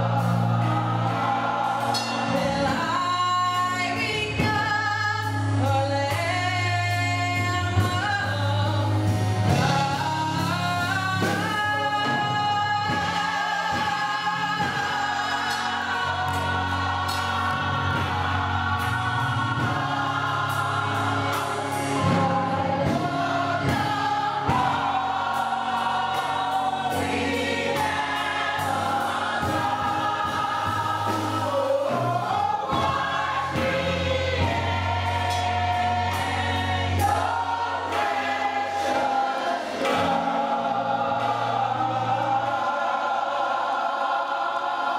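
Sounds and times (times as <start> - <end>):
drums: 0.0 - 42.7
gospel choir singing: 0.0 - 44.9.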